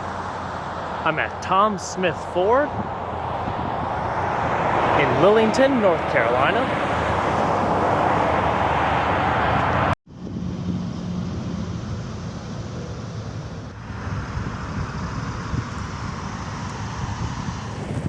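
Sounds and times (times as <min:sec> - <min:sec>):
passing traffic: 0:00.0 - 0:18.0
wind on microphone: 0:01.1 - 0:18.0.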